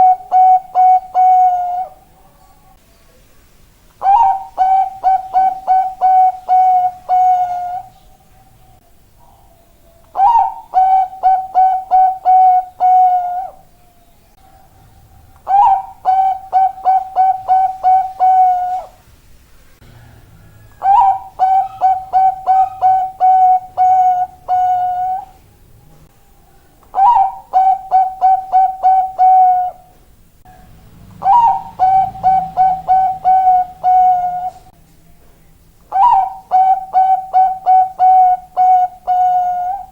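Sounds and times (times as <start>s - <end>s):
dove cooing: 0.0s - 2.8s, 4.0s - 19.0s, 19.9s - 25.4s, 26.5s - 30.0s, 31.1s - 34.8s, 35.9s - 39.9s.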